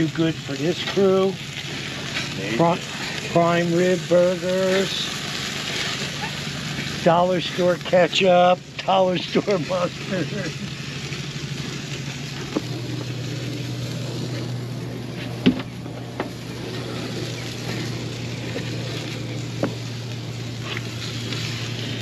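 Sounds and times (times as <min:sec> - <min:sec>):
boat engine idling: 0:00.0 - 0:22.0.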